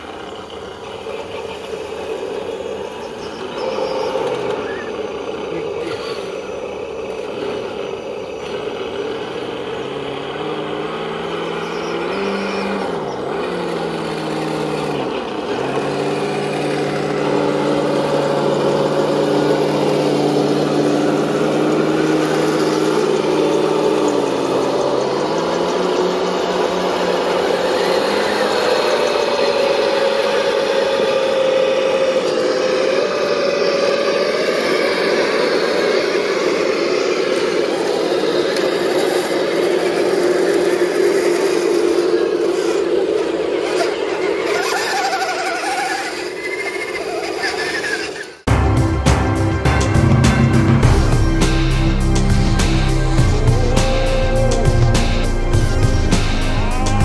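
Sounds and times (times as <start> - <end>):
electric motors and gears whining: 0.0 - 57.0.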